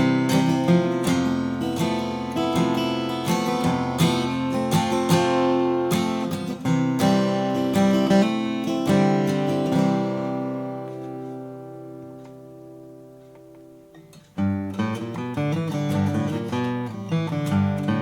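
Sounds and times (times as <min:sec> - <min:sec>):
acoustic guitar chords strummed: 0:00.0 - 0:18.0
picked guitar notes: 0:00.0 - 0:18.0.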